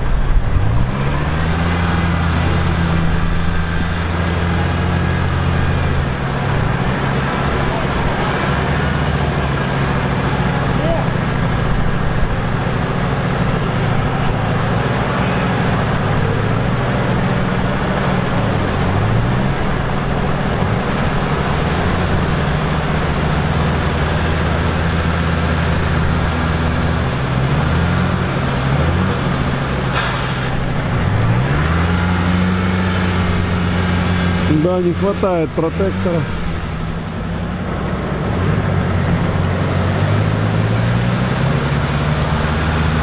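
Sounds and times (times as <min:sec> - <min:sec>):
off-road engine revving: 0:00.0 - 0:43.0.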